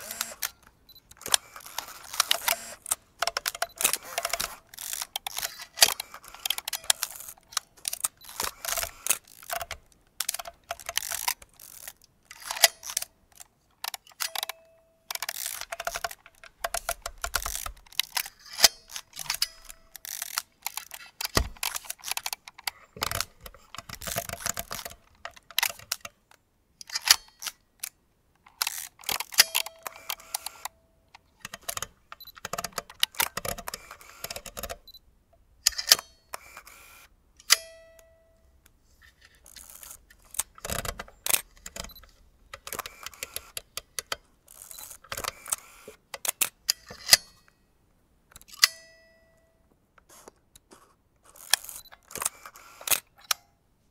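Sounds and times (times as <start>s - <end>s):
camera shutter clicks and rattles: 0.0s - 35.0s, 35.7s - 38.2s, 39.0s - 47.5s, 50.1s - 53.4s.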